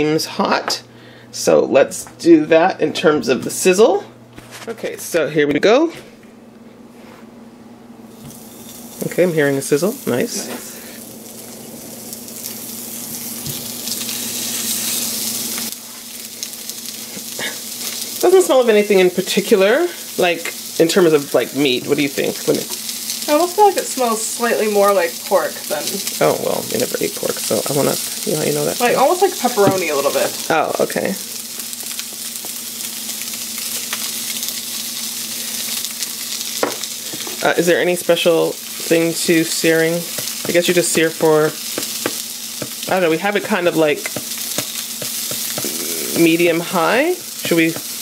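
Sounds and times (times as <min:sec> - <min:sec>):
steaks sizzling in frying pan: 0:08.1 - 0:48.0.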